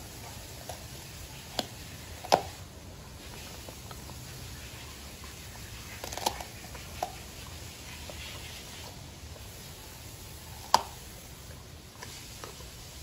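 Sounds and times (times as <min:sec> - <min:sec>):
dog crunching a carrot: 0:00.0 - 0:13.0.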